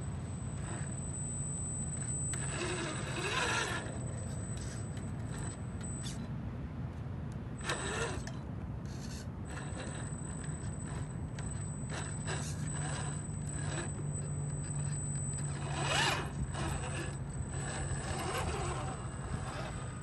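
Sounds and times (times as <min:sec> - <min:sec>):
electric motor whining: 0:00.0 - 0:06.2, 0:07.6 - 0:20.0.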